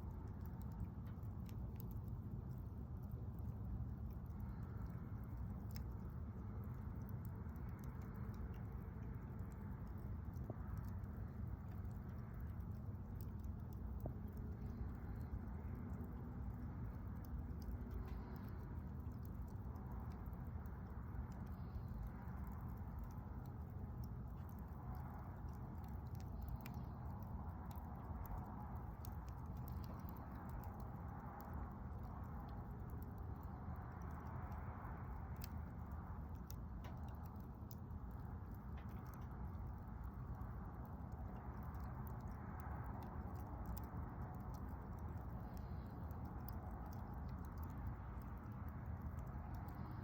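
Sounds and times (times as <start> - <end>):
campfire flame rushing: 0.0 - 50.0
wood crackling and popping: 0.0 - 50.0.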